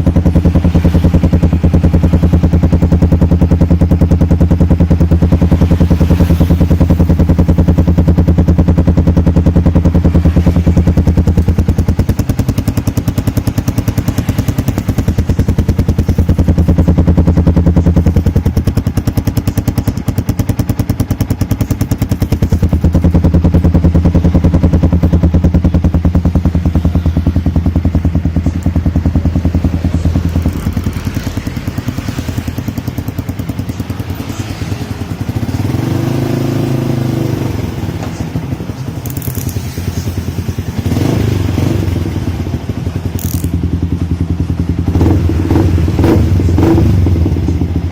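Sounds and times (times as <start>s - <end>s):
motorcycle idling loudly: 0.0s - 47.9s.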